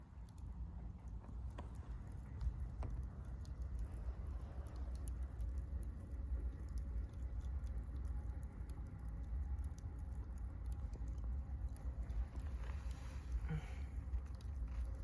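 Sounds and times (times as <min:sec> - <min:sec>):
charcoal fire crackling: 0:00.0 - 0:15.0
low fire rumble: 0:00.0 - 0:15.0.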